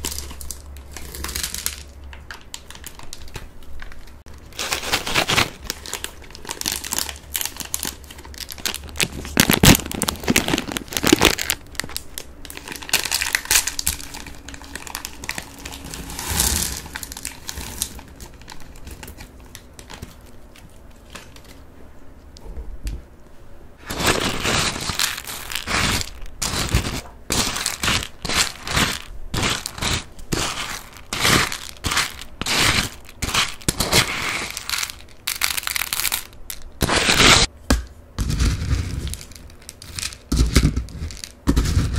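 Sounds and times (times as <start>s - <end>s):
crunching corn puffs: 0.0s - 21.4s, 23.8s - 37.5s
plastic snack bag crinkling: 0.0s - 21.6s, 23.8s - 37.5s, 38.3s - 41.9s.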